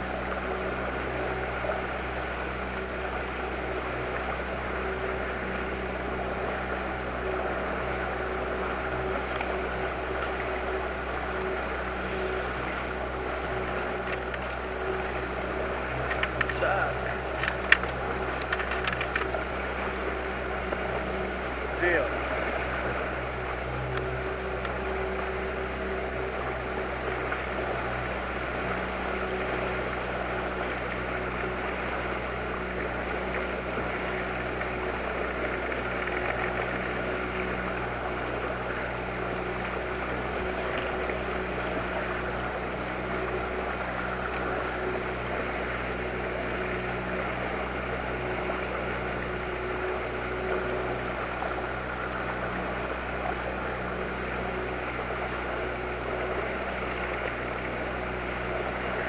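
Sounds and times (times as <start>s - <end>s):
outboard motor running: 0.0s - 59.0s
water rushing past hull: 0.0s - 59.0s.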